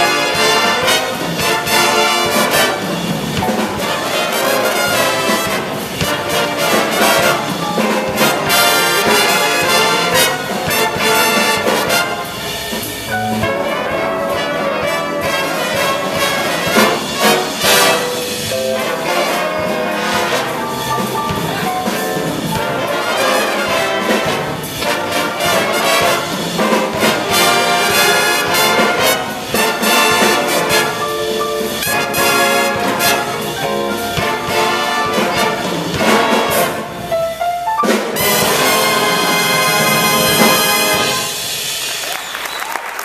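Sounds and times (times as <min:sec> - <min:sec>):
jazz big band playing swing: 0:00.0 - 0:43.0.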